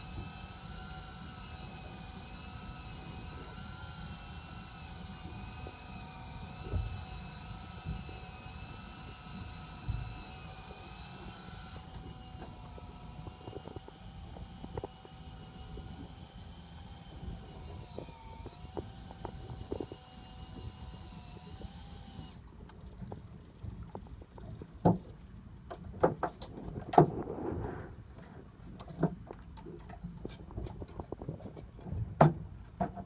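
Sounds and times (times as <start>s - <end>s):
wavering whine: 0.0s - 25.9s, 26.5s - 31.6s.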